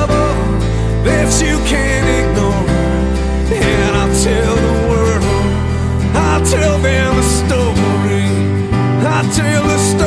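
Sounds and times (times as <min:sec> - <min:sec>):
song with guitar and singing: 0:00.0 - 0:10.0.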